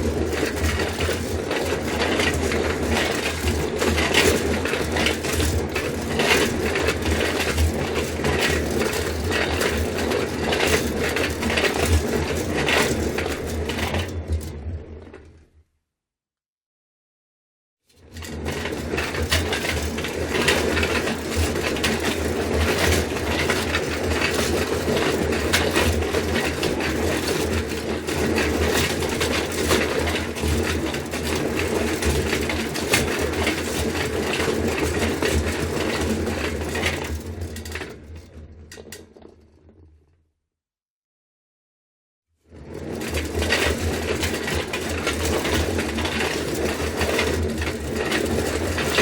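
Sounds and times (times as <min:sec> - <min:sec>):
wheeled trolley rattling: 0:00.0 - 0:14.5, 0:18.2 - 0:38.9, 0:42.5 - 0:49.0.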